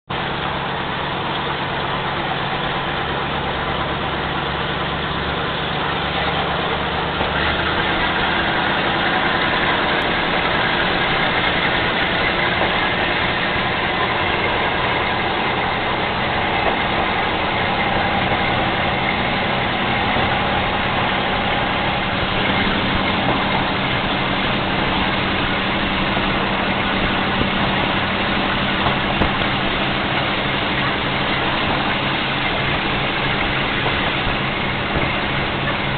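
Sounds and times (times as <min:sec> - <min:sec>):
railcar diesel engine running: 0:00.0 - 0:35.9.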